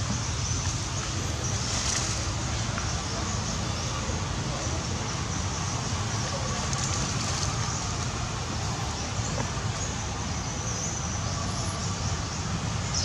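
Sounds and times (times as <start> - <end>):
steady rumbling background noise: 0.0 - 13.0.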